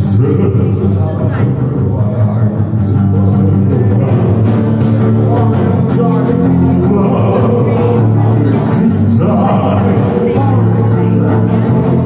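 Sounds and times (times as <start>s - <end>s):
man singing: 0.0s - 12.0s
strummed acoustic guitar: 0.0s - 12.0s.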